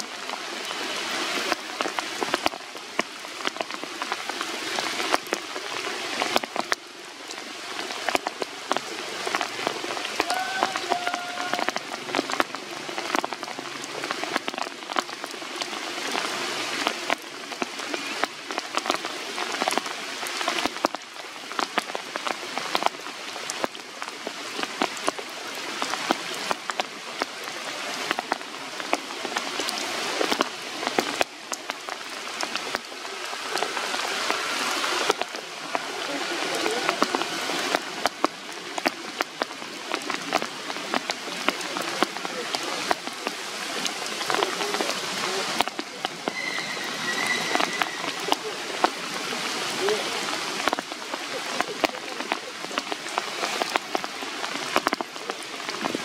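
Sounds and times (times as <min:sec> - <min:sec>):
rain falling on tree leaves: 0:00.0 - 0:56.0.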